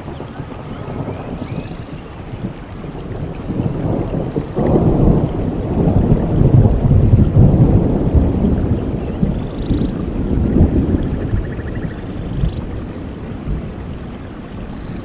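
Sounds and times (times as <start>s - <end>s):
steady rain: 0.0s - 15.0s
thunder rumbling: 0.0s - 15.0s.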